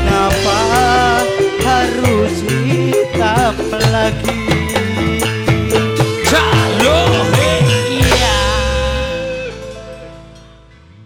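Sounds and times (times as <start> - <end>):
band music: 0.0 - 11.0.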